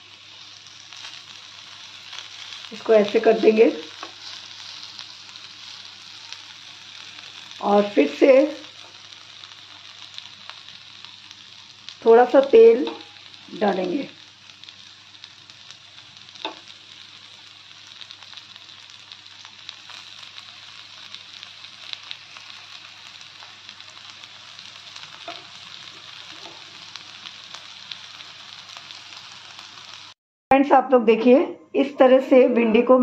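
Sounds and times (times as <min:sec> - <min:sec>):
crackles and pops of frying: 0:00.0 - 0:30.2
okra sizzling in oil: 0:00.0 - 0:30.2.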